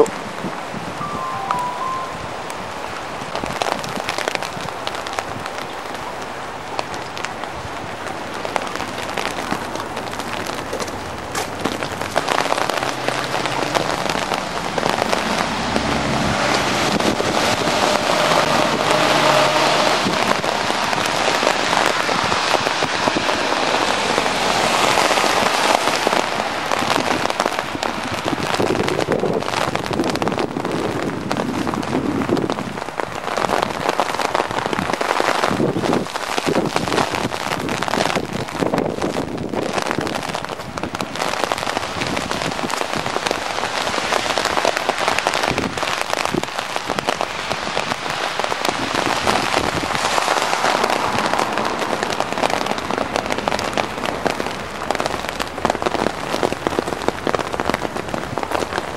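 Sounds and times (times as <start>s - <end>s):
heavy wet snow falling: 0.0s - 58.9s.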